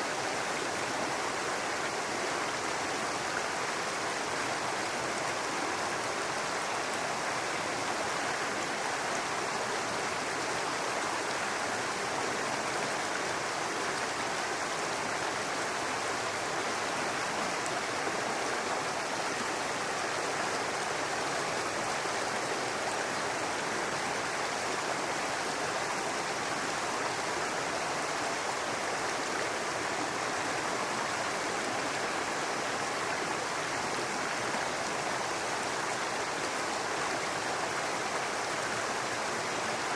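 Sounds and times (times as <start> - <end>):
brook water running: 0.0 - 39.9.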